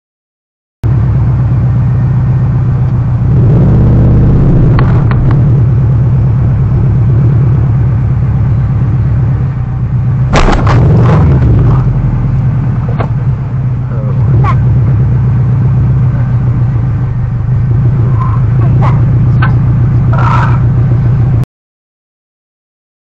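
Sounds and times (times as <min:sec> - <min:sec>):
car engine and road noise: 0:00.8 - 0:21.4.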